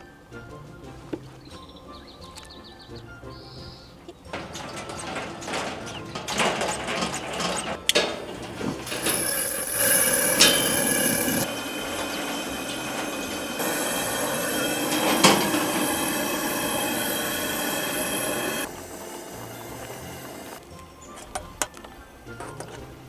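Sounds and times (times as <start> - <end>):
camp stove hissing: 3.6 - 22.6.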